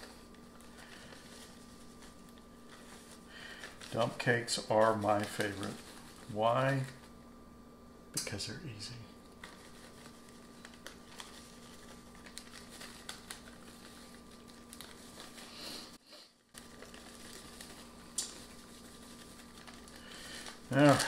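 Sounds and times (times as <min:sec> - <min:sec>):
dry mix pattering: 0:00.0 - 0:07.2, 0:08.2 - 0:21.0
plastic bag rustling: 0:00.0 - 0:07.2, 0:09.2 - 0:21.0
steady faint hum: 0:00.0 - 0:21.0.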